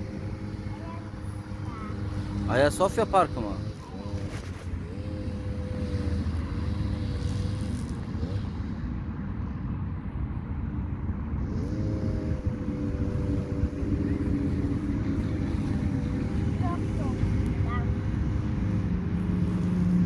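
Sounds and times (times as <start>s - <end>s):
motor engine humming: 0.0s - 9.6s, 10.3s - 20.0s.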